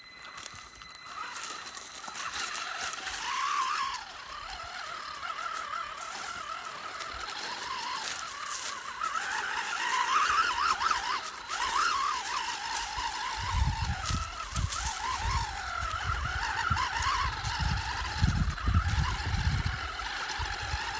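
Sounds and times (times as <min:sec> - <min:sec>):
electric motor whining: 0:00.0 - 0:20.9
tyres crunching on sand: 0:00.0 - 0:20.9.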